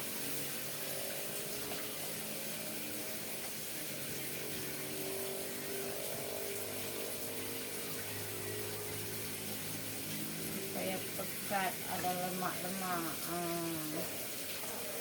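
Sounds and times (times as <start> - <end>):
broth simmering and bubbling: 0.0 - 15.0.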